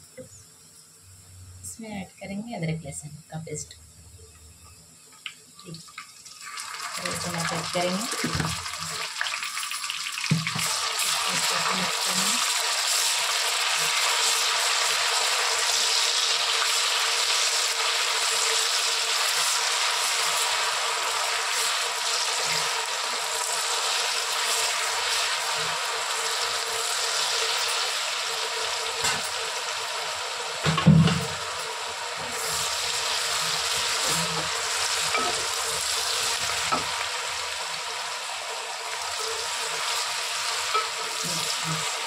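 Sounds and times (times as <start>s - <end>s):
paste sizzling in hot oil: 5.2s - 42.0s.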